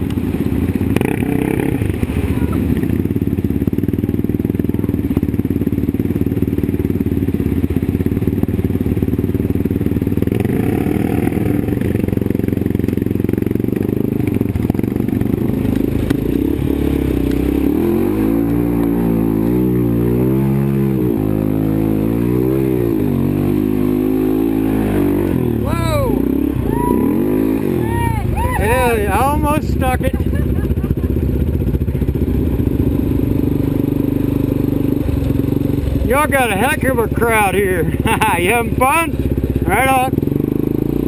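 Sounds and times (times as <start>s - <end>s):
quad engine running and revving: 0.0s - 41.0s.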